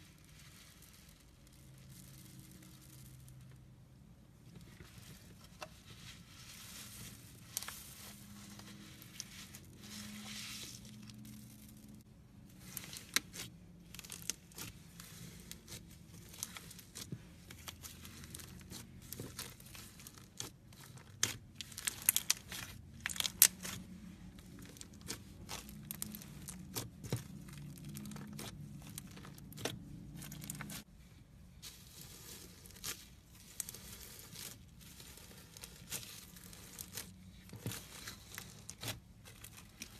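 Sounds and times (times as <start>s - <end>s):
foam-bead slime crackling: 0.0s - 39.9s.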